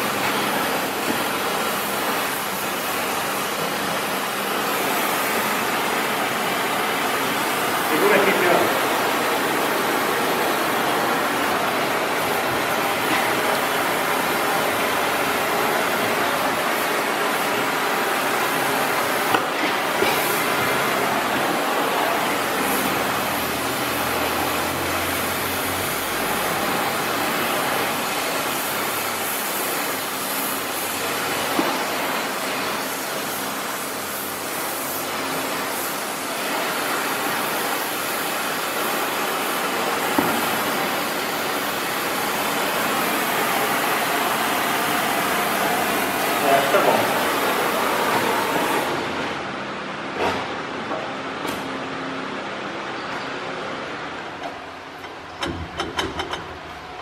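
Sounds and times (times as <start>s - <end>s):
gas torch flame hissing: 0.0s - 49.0s.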